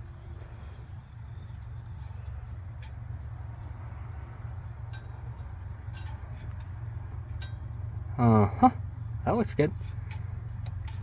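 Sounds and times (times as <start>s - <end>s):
combine engine rumbling: 0.0s - 11.0s.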